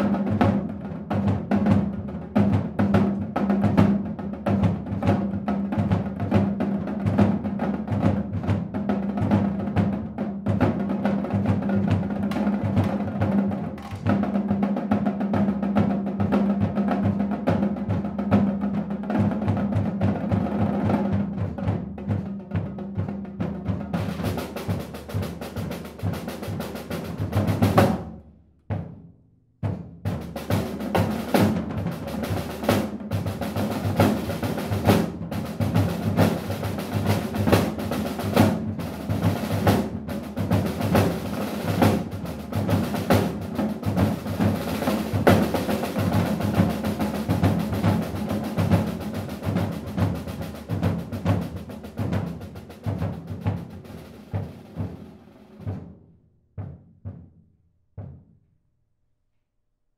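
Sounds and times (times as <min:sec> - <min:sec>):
snare drums playing: 0:00.0 - 0:29.0, 0:29.6 - 0:56.0.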